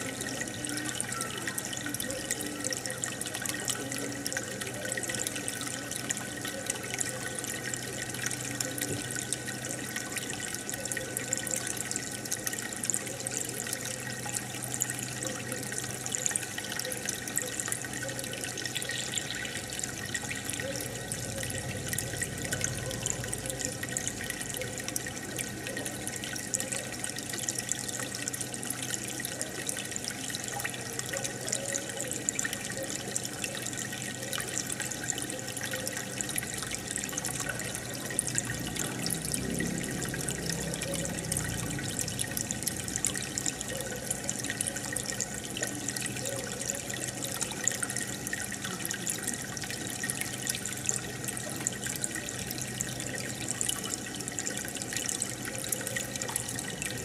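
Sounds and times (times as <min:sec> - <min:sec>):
aquarium water bubbling: 0:00.0 - 0:57.0.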